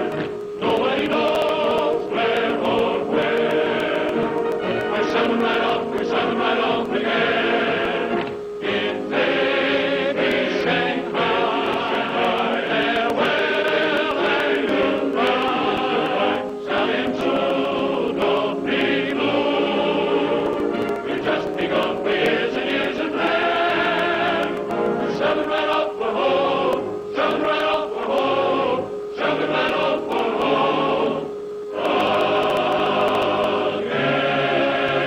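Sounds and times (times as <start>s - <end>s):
choir singing sustained chords: 0.0s - 35.0s.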